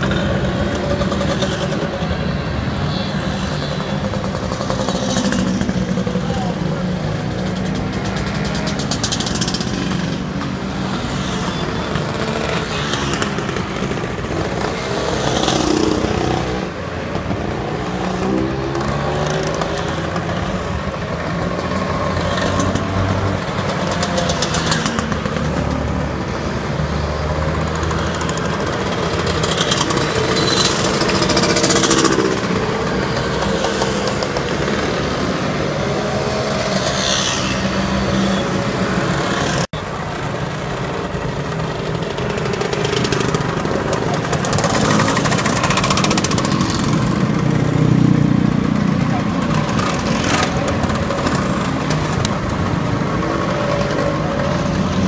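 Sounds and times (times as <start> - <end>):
loud scooter passing close: 0.0 - 55.0
motor scooters riding past: 0.0 - 55.0.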